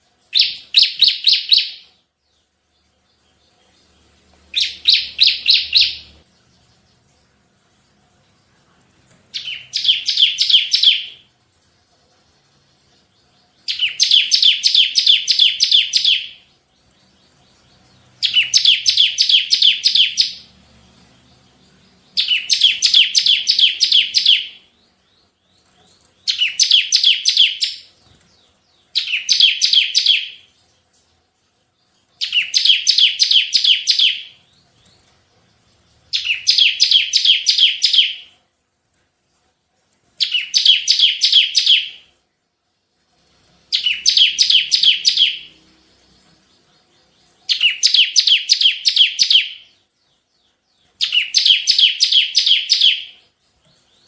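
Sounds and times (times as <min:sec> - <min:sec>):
bird singing high repeated notes: 0:00.3 - 0:07.1, 0:09.3 - 0:11.3, 0:12.2 - 0:30.6, 0:31.2 - 0:38.4, 0:40.2 - 0:42.2, 0:43.4 - 0:54.0.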